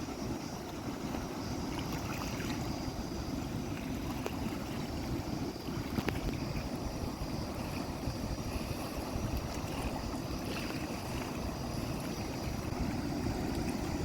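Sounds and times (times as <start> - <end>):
flowing water rumbling: 0.0 - 14.0
wind buffeting microphone: 0.0 - 14.0.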